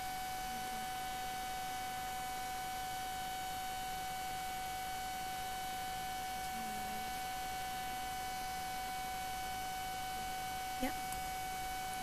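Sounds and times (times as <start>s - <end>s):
steady electrical whine: 0.0s - 12.0s.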